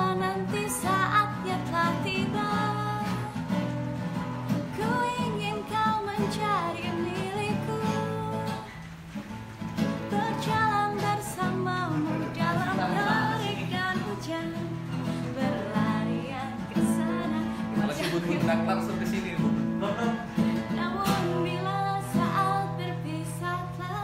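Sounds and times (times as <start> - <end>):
woman singing: 0.0 - 3.8, 4.5 - 9.0, 9.9 - 18.4, 20.4 - 24.0
acoustic guitar chords: 0.0 - 24.0.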